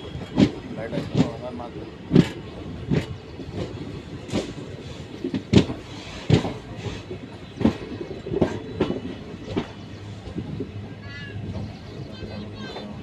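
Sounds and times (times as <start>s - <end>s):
train rumble: 0.0s - 13.0s
train wheels clacking over rail joints: 0.0s - 13.0s.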